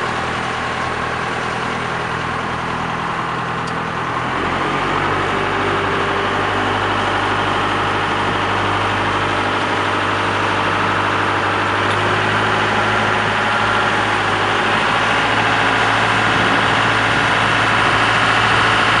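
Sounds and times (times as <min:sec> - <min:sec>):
boat engine running steadily: 0:00.0 - 0:19.0.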